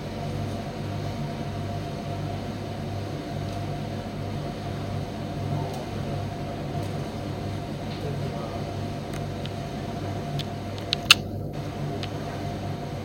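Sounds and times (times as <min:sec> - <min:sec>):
tumble dryer running: 0:00.0 - 0:13.0.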